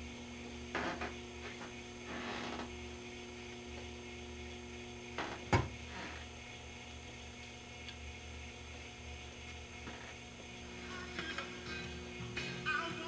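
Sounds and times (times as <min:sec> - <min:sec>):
radio mains hum: 0:00.0 - 0:13.0.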